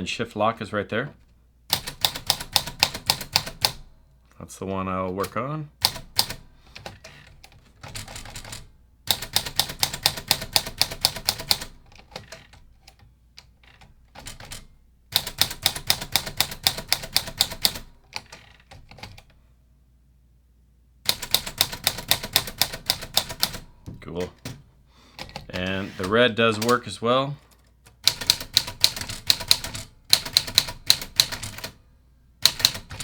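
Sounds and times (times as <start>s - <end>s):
manual typewriter key strikes: 1.7s - 3.9s, 5.2s - 19.2s, 21.1s - 26.9s, 27.9s - 31.8s, 32.4s - 33.0s.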